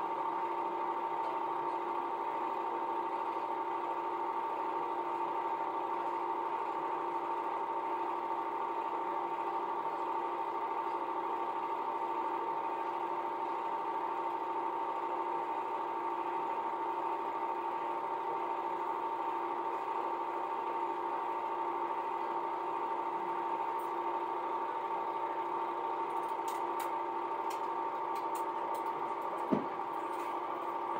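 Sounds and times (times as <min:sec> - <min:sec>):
film projector whirring: 0:00.0 - 0:30.9.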